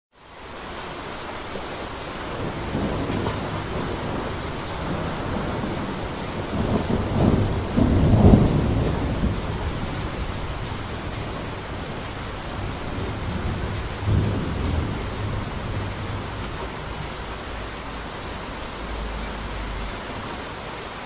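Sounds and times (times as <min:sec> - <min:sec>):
steady rain: 0:00.1 - 0:21.0
rolling thunder: 0:02.3 - 0:20.6.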